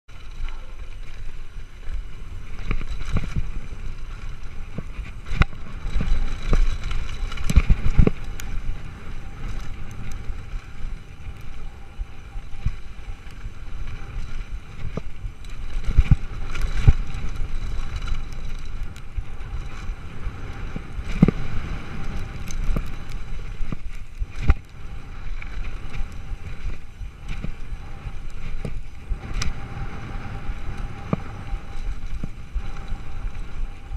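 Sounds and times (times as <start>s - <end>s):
bike tyre rumble and rattle: 0.0s - 33.9s
wheels knocking on rocks: 0.1s - 33.9s
wind noise on microphone: 0.1s - 33.9s.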